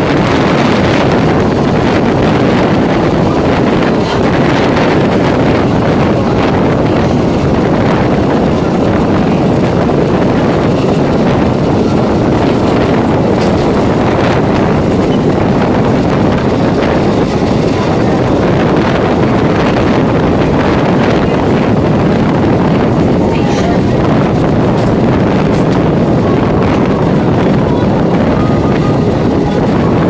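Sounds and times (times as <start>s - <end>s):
electric train running at speed: 0.0s - 30.0s
wind buffeting microphone: 0.0s - 30.0s.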